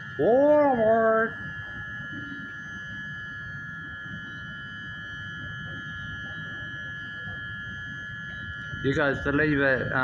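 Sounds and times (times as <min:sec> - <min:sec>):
high-pitched electrical whine: 0:00.0 - 0:10.0.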